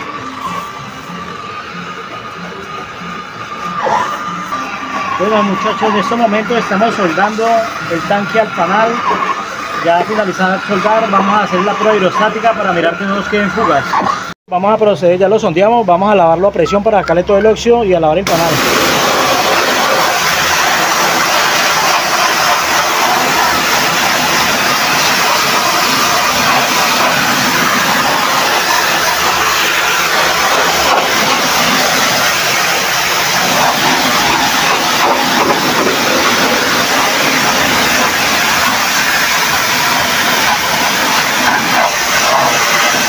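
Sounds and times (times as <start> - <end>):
pressure washer spraying water: 0.0 - 14.3, 18.3 - 43.0.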